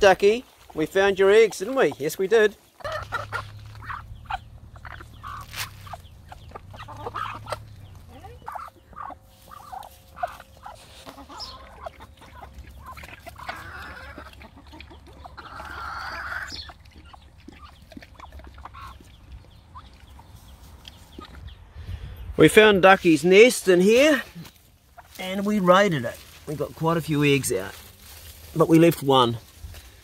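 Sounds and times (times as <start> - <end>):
hens clucking: 0.0 - 21.6, 23.7 - 29.8.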